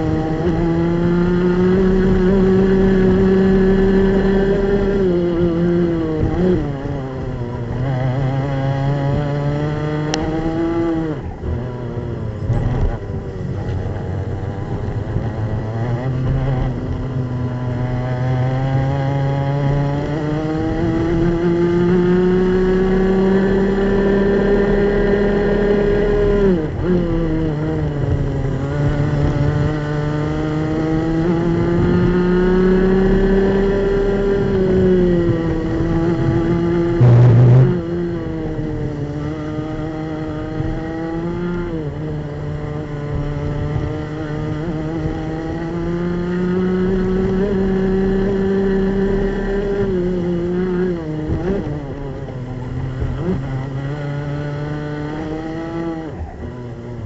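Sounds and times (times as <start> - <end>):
kart engine at high revs: 0.0 - 57.0.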